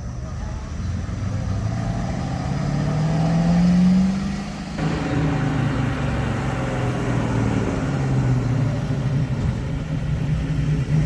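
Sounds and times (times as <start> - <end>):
car engine running low speed: 0.0 - 11.0.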